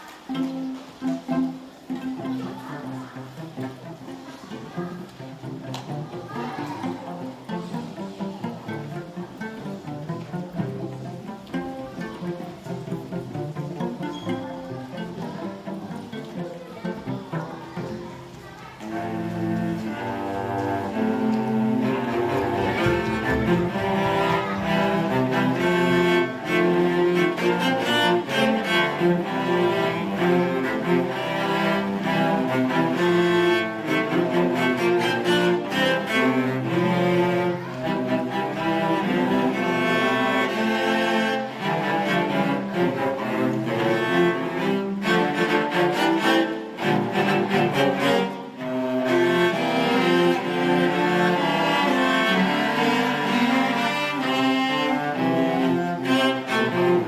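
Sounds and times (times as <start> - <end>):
children's orchestra with strings: 0.0 - 57.0.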